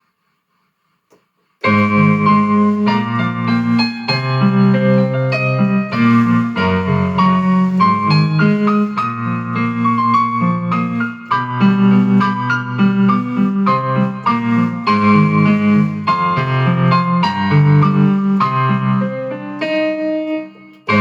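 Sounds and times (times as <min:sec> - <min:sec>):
electronic keyboard playing chords: 0:01.6 - 0:21.0
low bass line: 0:01.7 - 0:19.2.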